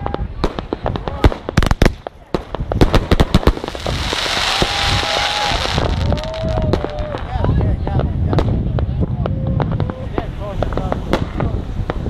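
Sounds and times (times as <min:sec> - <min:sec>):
fireworks bangs: 0:00.0 - 0:12.0
hissing crackle of fireworks: 0:00.0 - 0:12.0.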